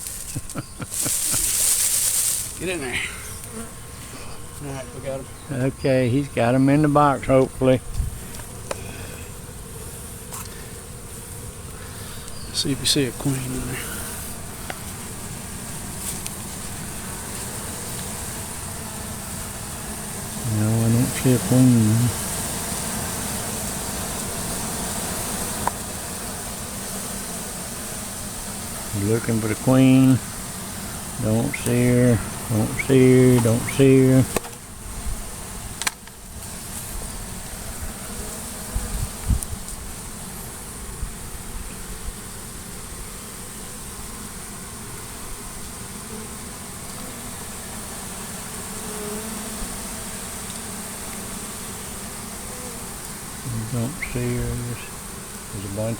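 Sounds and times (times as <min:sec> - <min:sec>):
bee swarm buzzing: 0:00.0 - 0:55.9
even high hiss: 0:00.0 - 0:55.9.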